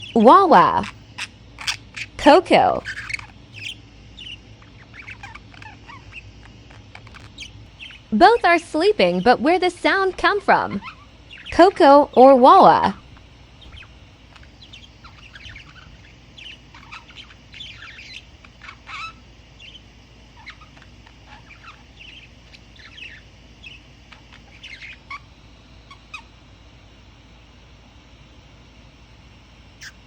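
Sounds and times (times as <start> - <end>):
budgerigar chirping and warbling: 0.0 - 26.3, 29.8 - 30.0.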